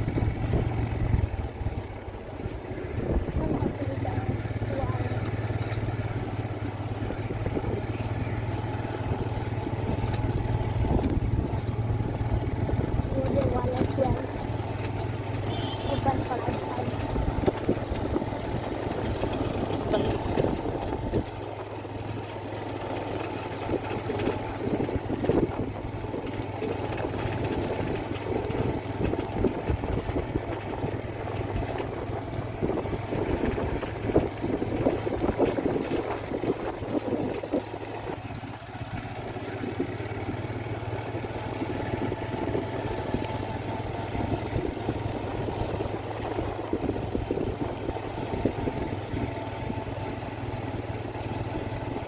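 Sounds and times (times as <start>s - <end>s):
engine droning hum: 0.0s - 52.0s.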